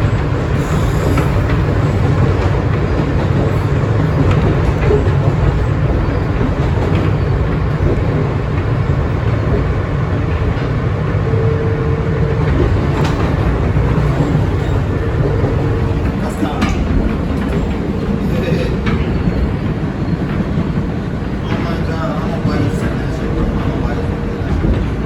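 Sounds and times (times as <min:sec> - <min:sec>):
subway wheels rumbling on rail: 0:00.0 - 0:25.0.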